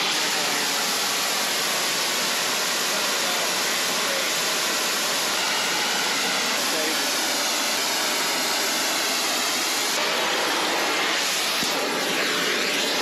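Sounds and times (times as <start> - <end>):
torch flame hissing: 0.0 - 13.0.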